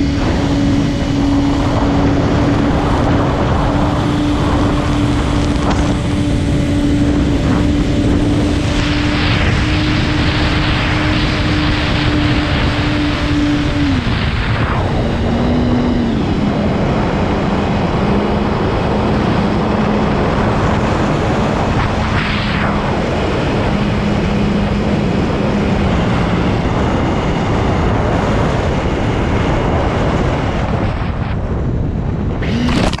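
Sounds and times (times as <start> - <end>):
drone motor and propeller hum: 0.0 - 33.0
wind rush on microphone: 0.0 - 33.0.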